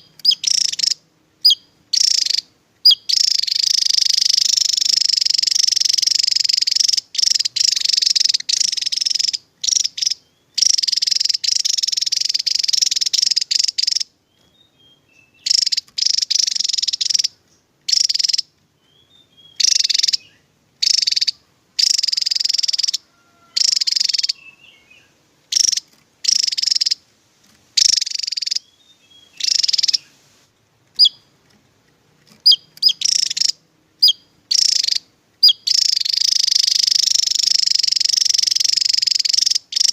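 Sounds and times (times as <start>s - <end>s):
bird chirps: 0.0s - 27.0s, 27.8s - 31.6s, 32.2s - 39.9s
bird trilling song: 0.0s - 27.0s, 27.8s - 30.2s, 30.8s - 31.6s, 32.2s - 39.9s.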